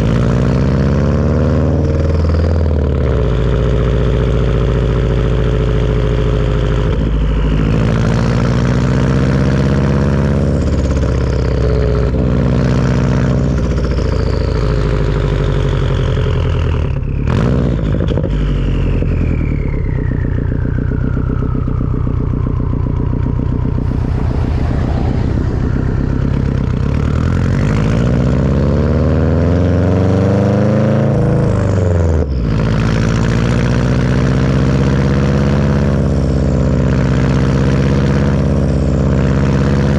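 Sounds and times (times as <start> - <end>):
car engine revving through gears: 0.0 - 19.3, 23.2 - 39.9.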